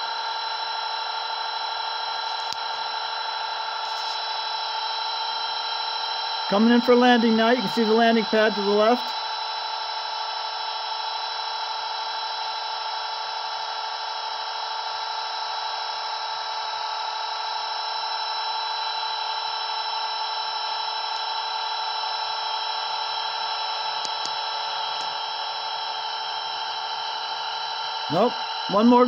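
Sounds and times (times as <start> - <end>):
rc helicopter rotors whining: 0.0 - 29.0.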